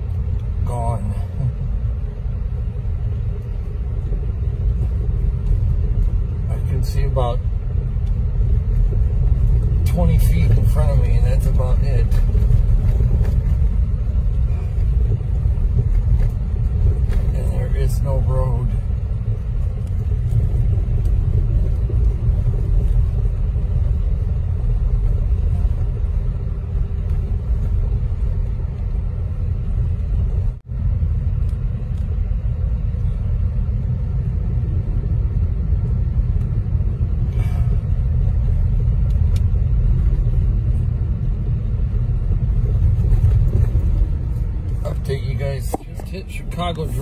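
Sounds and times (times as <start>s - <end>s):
car engine rumble: 0.0s - 47.0s
road noise: 0.0s - 47.0s.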